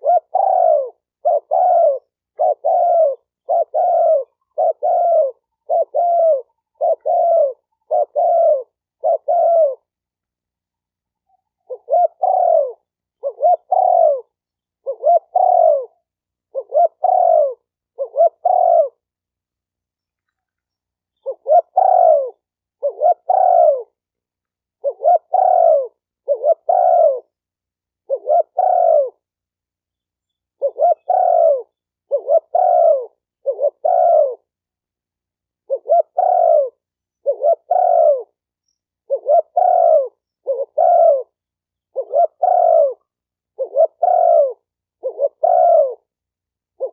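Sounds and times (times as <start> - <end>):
dove cooing: 0.0 - 10.0, 11.3 - 19.1, 21.2 - 24.0, 24.7 - 27.4, 28.0 - 29.3, 30.6 - 34.6, 35.6 - 38.4, 39.0 - 46.9.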